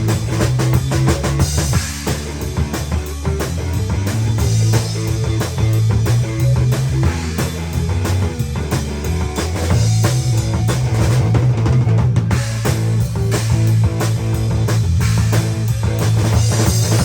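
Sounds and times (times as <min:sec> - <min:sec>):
drum kit: 0:00.0 - 0:17.0
live rock band playing: 0:00.0 - 0:17.0.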